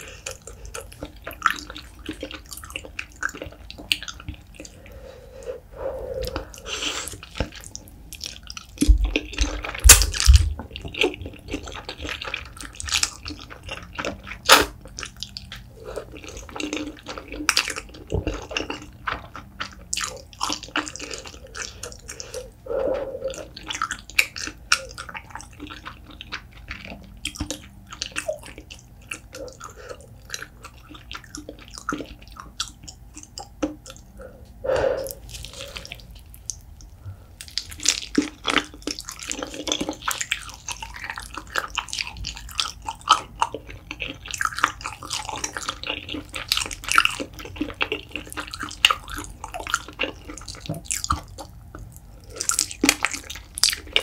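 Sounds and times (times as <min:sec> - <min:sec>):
wet chewing and mouth clicks: 0:00.0 - 0:54.0.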